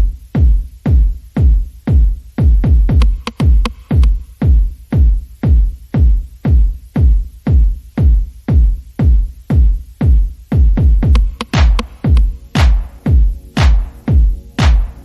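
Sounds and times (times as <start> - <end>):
electronic music with kick drum: 0.0 - 15.0.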